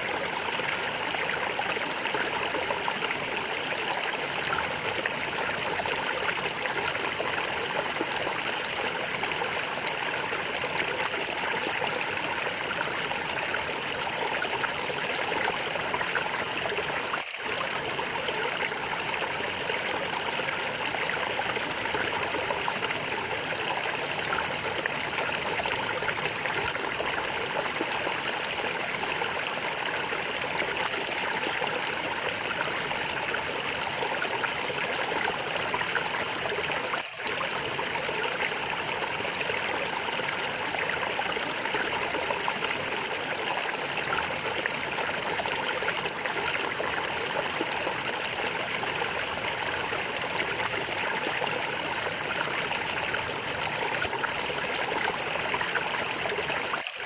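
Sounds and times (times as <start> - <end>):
water flowing and gurgling: 0.0 - 57.0.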